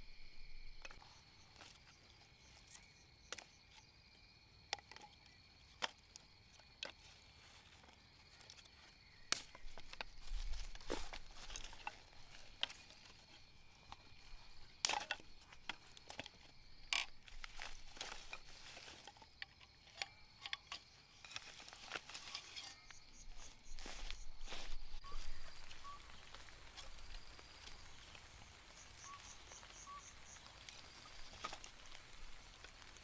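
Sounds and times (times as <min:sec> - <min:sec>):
insect trill: 0:00.0 - 0:33.0
rustling: 0:05.6 - 0:33.0.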